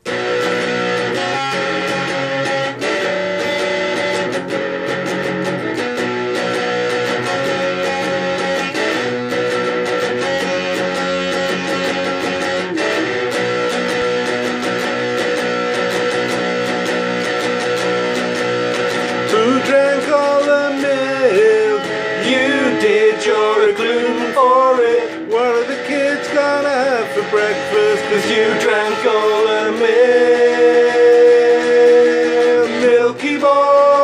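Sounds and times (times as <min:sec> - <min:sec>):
strummed guitar chords: 0:00.0 - 0:34.0.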